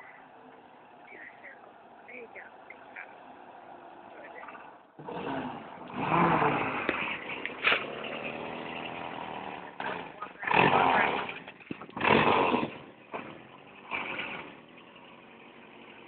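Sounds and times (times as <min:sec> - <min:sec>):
jeep engine running and revving: 0:00.0 - 0:16.0.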